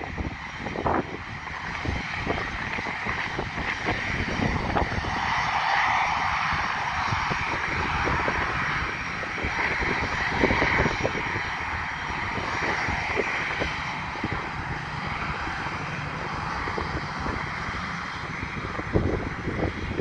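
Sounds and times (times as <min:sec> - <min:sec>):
jet engines whining: 0:00.0 - 0:20.0
wind gusts on microphone: 0:00.0 - 0:20.0.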